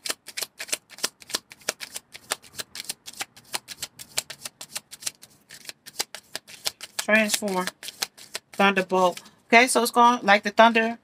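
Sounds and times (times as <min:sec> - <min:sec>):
cards being shuffled: 0:00.0 - 0:09.3.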